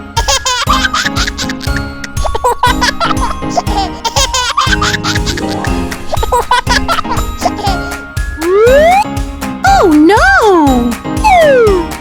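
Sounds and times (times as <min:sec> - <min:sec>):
upbeat music with steady beat: 0:00.0 - 0:12.0.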